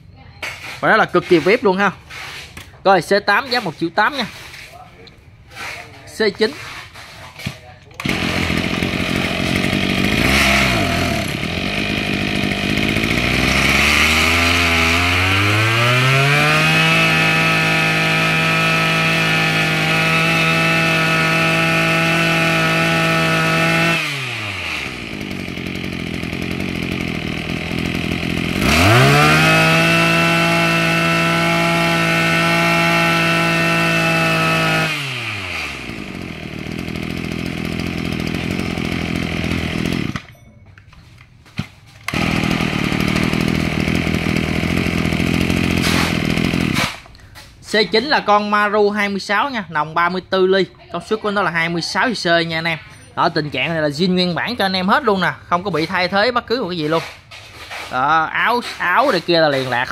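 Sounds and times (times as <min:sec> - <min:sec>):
brush-cutter engine idling and revving: 0:00.4 - 0:40.4, 0:41.1 - 0:59.9.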